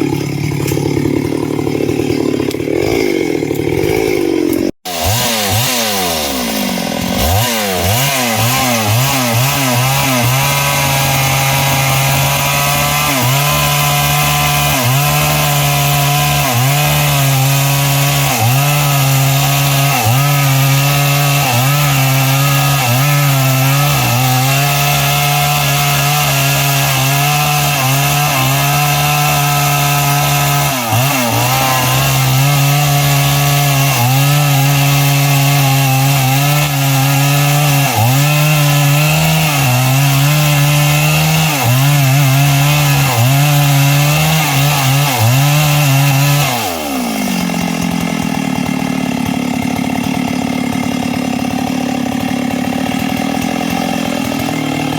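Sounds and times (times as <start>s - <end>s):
chainsaw cutting log: 0.0s - 54.9s.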